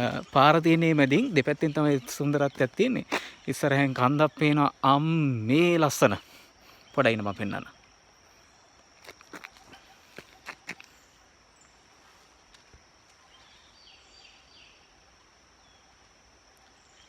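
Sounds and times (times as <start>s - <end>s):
insect buzz: 0.0s - 17.0s.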